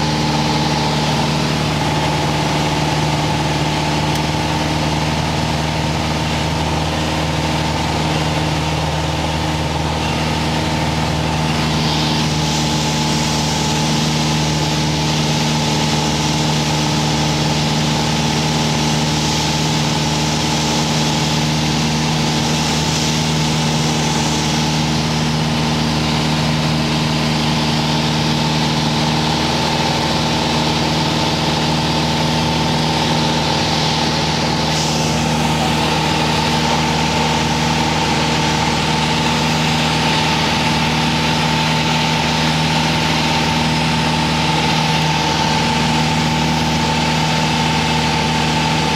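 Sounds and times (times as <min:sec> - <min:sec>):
light aircraft engine droning: 0:00.0 - 0:48.9
rush of air noise: 0:00.0 - 0:48.9.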